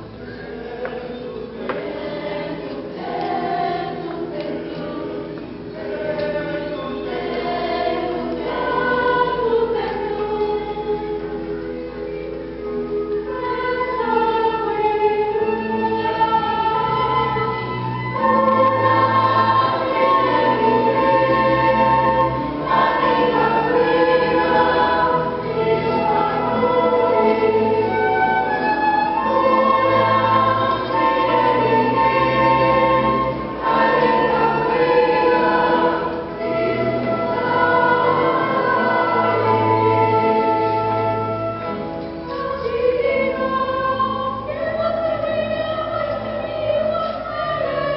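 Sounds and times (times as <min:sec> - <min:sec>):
choir singing sustained chords: 0:00.0 - 0:47.9.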